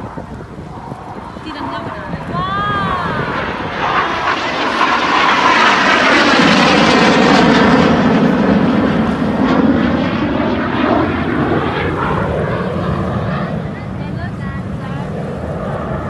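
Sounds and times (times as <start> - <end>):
aircraft flying past overhead: 0.0 - 16.0.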